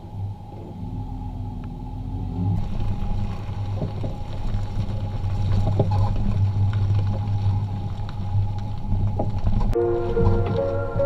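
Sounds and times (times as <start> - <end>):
gravel crunching: 0.0 - 11.0
vehicle low rumble: 0.0 - 11.0.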